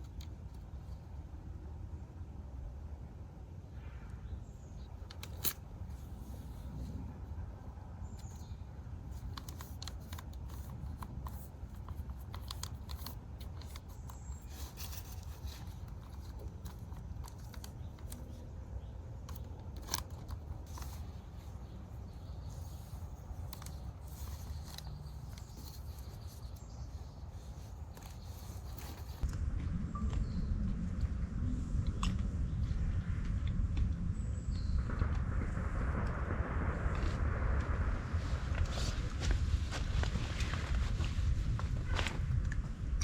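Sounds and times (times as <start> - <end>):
low steady rumble: 0.0 - 43.0.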